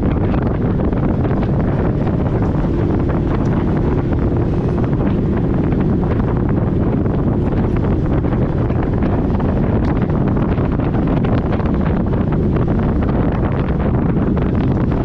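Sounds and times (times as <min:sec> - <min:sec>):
vehicle engine and tyres: 0:00.0 - 0:15.0
wind buffeting microphone: 0:00.0 - 0:15.0.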